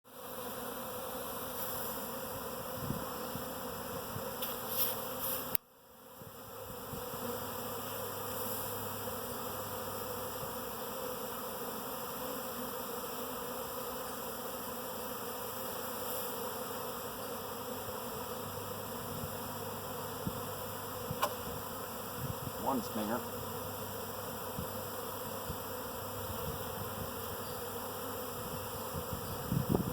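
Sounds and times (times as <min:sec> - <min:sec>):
bee swarm buzzing: 0:00.1 - 0:29.9.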